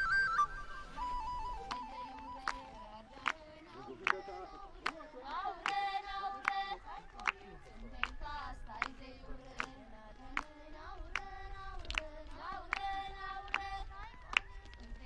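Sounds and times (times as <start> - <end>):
high voices singing held notes: 1.0 - 15.0
hand clap: 1.6 - 10.5, 11.1 - 12.1, 12.7 - 15.0.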